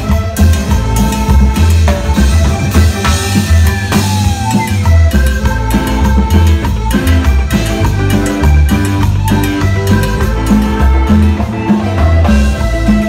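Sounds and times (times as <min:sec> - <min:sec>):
cumbia band playing: 0:00.0 - 0:13.0.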